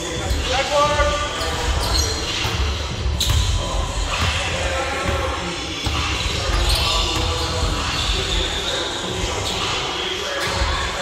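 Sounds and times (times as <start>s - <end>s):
sneaker squeaks: 0.0s - 11.0s.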